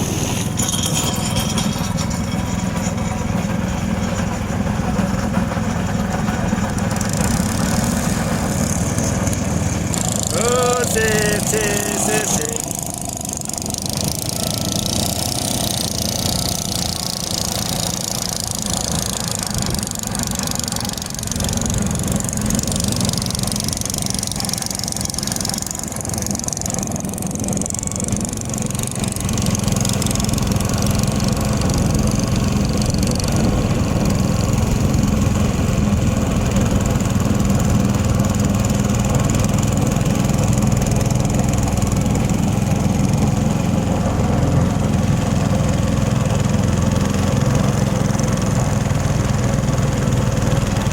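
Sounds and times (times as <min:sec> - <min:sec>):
boat engine running: 0:00.0 - 0:50.9.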